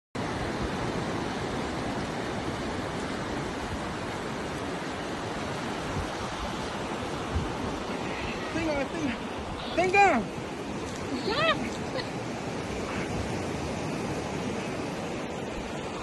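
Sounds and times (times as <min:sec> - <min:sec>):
sea surf rushing: 0:00.2 - 0:16.0.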